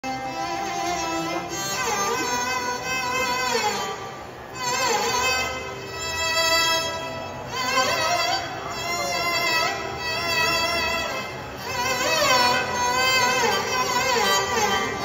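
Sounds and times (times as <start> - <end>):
violin melody: 0.0 - 15.0.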